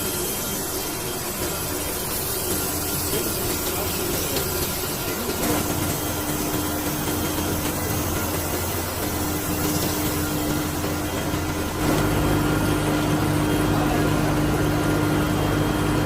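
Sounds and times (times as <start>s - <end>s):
machine hiss and hum: 0.0s - 16.0s
steady machine tone: 0.0s - 16.0s.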